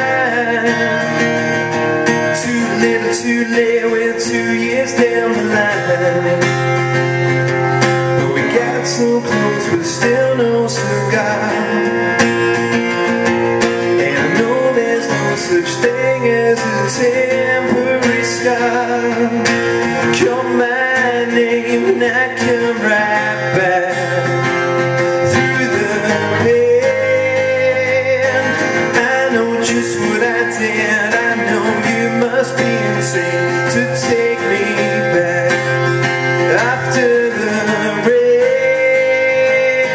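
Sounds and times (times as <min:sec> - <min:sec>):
acoustic guitar strumming: 0:00.0 - 0:39.9
man singing: 0:00.0 - 0:39.9.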